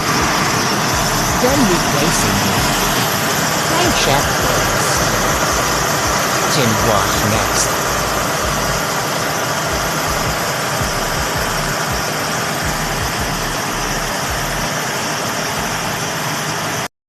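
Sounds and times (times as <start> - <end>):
diesel engine idling: 0.0 - 16.8.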